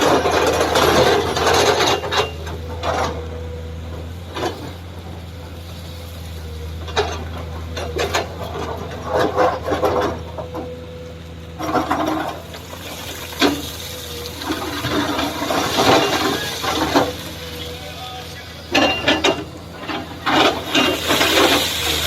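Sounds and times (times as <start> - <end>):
excavator bucket scraping mud: 0.0 - 10.7, 11.6 - 22.0
heavy machine engine running: 0.0 - 22.0.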